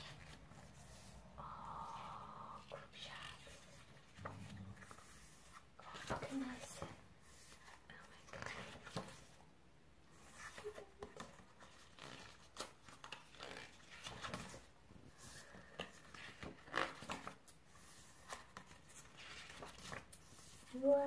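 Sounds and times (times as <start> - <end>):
pages rustling: 0.0 - 1.2, 3.1 - 9.4, 10.1 - 20.9.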